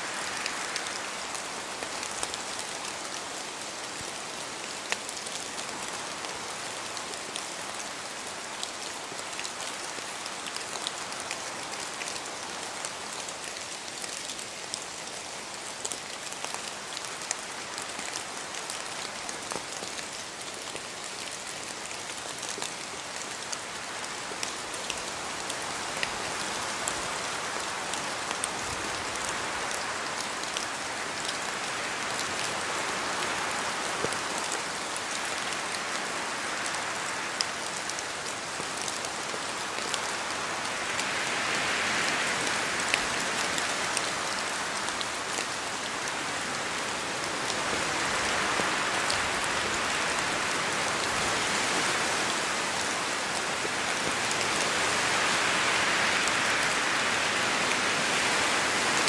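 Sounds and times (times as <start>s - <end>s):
rain wash: 0.0s - 59.0s
wind: 0.0s - 59.0s.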